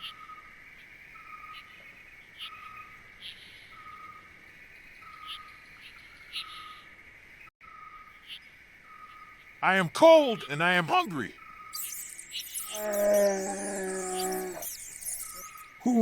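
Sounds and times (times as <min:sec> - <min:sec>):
insect trill: 0:00.0 - 0:16.0
short repeated insect call: 0:00.0 - 0:16.0.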